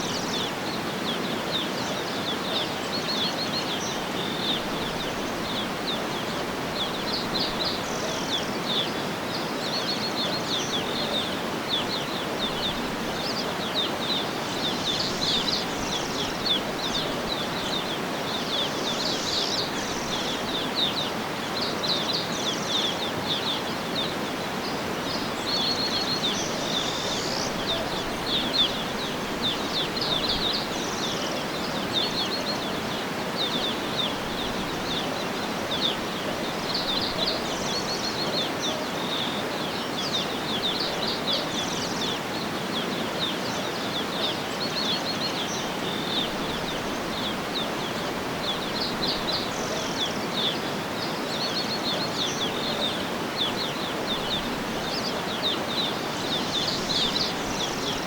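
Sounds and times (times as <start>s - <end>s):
outdoor ambience hiss: 0.0s - 58.0s
small birds chirping: 0.0s - 58.0s.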